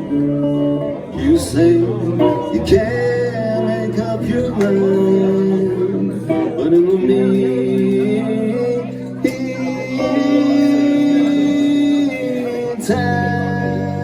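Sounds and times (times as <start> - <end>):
acoustic guitar: 0.0 - 14.0
person singing long notes: 0.0 - 14.0.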